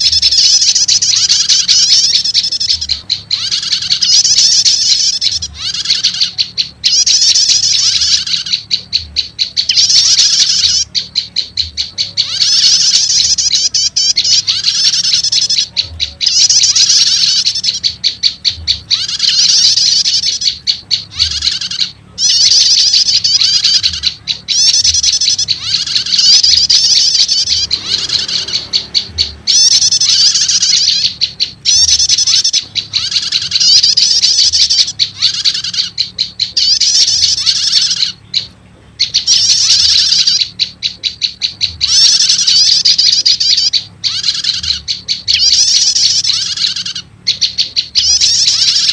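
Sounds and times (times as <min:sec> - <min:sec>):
faint low hum: 0:00.0 - 0:48.9
high-pitched bird chirping trills: 0:00.0 - 0:48.9.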